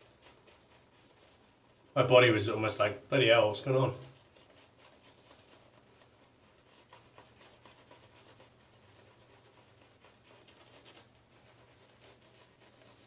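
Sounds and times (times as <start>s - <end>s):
shaving brush scratching on face: 0.0s - 13.0s.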